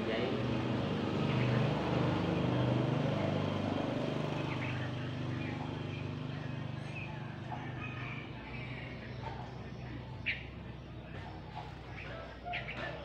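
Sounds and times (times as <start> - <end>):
birds chirping: 0.0 - 13.0
engine humming: 0.0 - 13.0.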